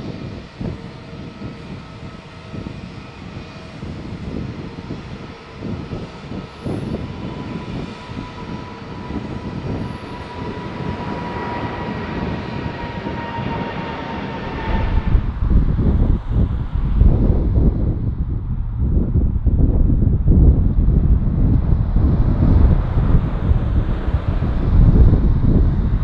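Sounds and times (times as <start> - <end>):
high fan whine: 0.0 - 26.0
jet engines roaring: 0.0 - 26.0.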